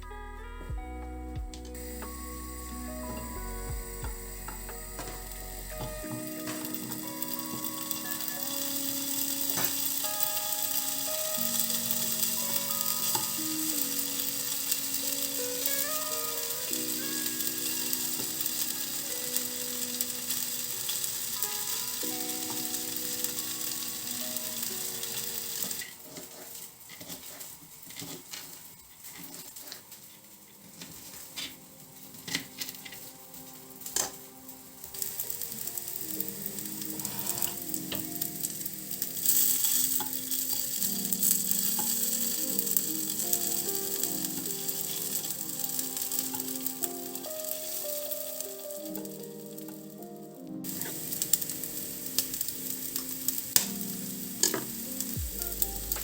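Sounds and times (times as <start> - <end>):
food sizzling in a pan: 1.8 - 56.0.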